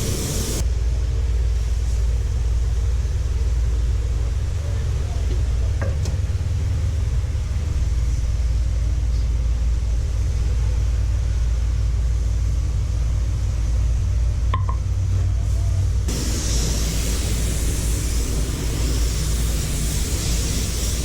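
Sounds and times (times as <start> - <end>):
low mechanical rumble: 0.0 - 21.0.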